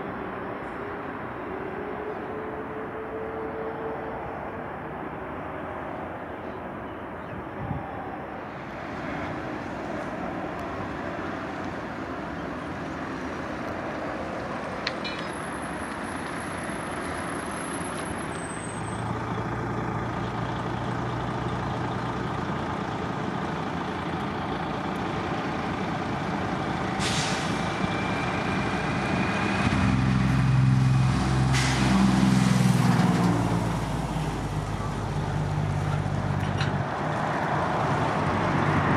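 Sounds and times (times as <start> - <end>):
jet engines at takeoff: 0.0 - 19.3, 22.6 - 35.4.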